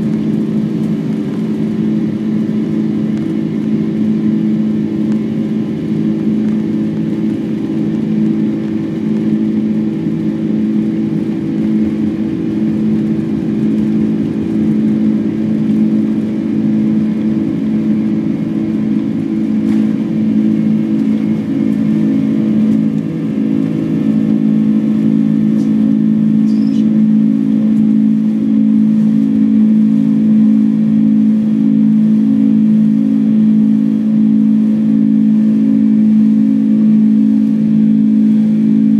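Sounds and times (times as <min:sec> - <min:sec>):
jet engines droning: 0:00.0 - 0:38.9
wheels rumbling on runway: 0:00.0 - 0:38.9.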